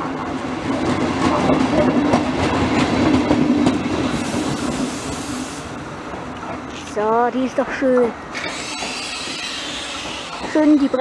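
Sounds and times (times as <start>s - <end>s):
train wheels clacking on rails: 0.0s - 6.6s, 7.5s - 11.0s
low train hum: 0.0s - 11.0s.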